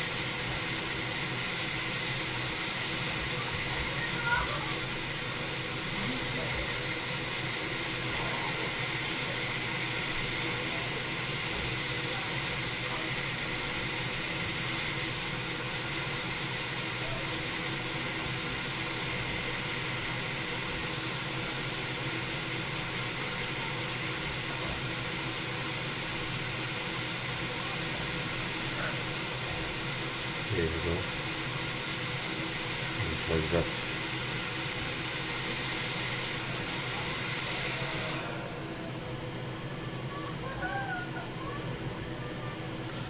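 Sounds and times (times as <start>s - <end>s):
hot air station hissing: 0.0s - 43.0s.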